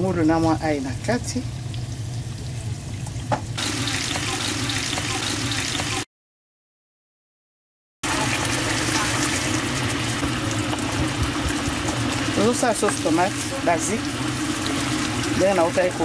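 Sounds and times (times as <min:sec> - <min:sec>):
vegetables sizzling in hot oil: 0:00.0 - 0:06.0, 0:08.0 - 0:16.0.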